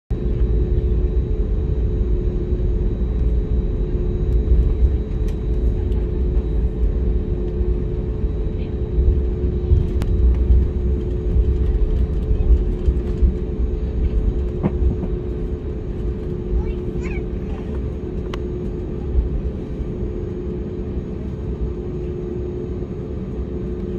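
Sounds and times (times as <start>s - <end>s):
aircraft cabin rumble: 0.1s - 23.9s
jet engine hum: 0.1s - 23.9s.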